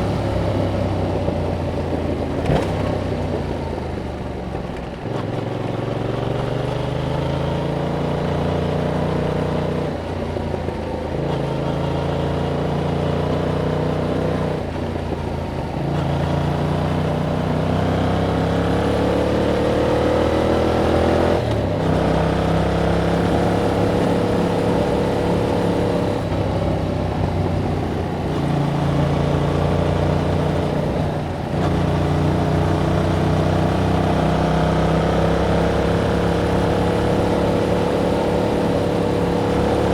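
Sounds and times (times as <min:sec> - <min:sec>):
motorcycle engine revving: 0:00.0 - 0:03.8, 0:11.1 - 0:39.9.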